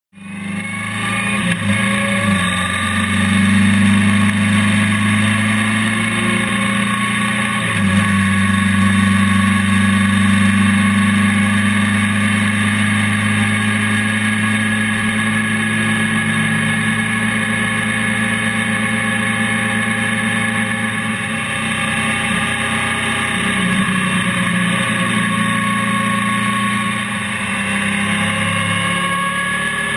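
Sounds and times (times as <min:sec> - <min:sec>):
motorcycle engine running: 0:00.2 - 0:29.9.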